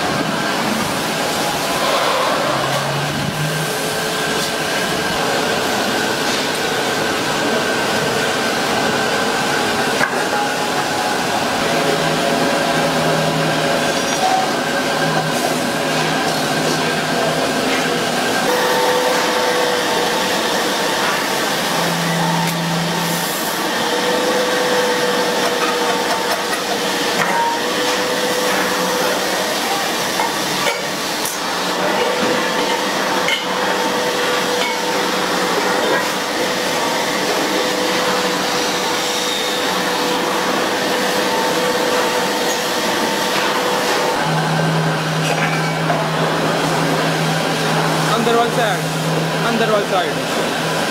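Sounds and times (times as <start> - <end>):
metal lathe machining: 0.0 - 50.9.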